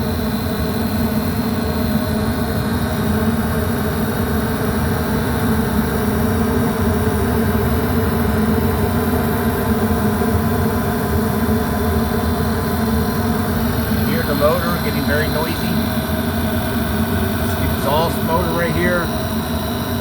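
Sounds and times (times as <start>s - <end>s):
furnace draft inducer motor running: 0.0s - 20.0s.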